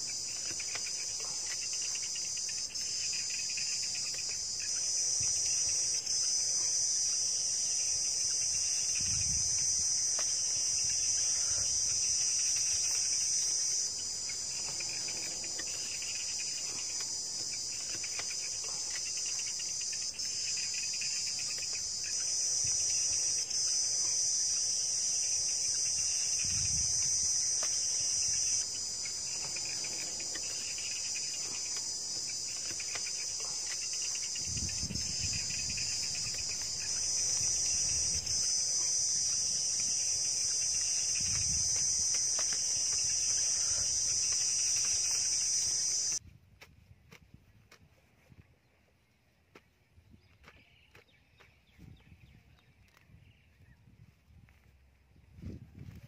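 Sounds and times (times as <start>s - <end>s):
high-pitched insect chorus: 0.0s - 46.2s
pulsing insect call: 0.0s - 46.2s.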